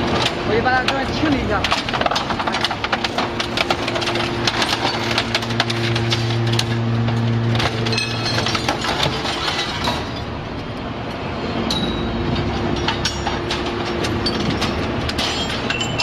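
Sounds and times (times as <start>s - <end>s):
scrap metal cracking and clattering: 0.0s - 10.5s, 12.2s - 16.0s
machine hum: 0.0s - 16.0s.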